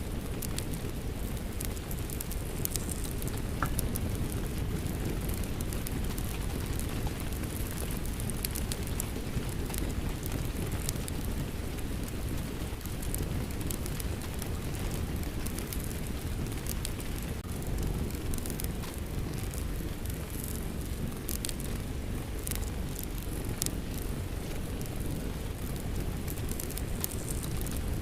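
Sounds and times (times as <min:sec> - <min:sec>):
steady rain: 0:00.0 - 0:28.0
fireplace crackling: 0:00.1 - 0:28.0.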